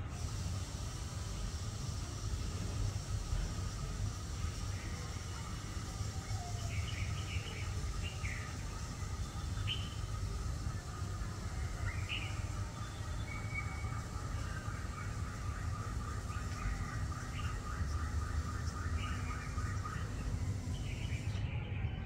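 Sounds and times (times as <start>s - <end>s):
steady low rumble: 0.0s - 22.0s
small birds chirping: 0.1s - 22.0s.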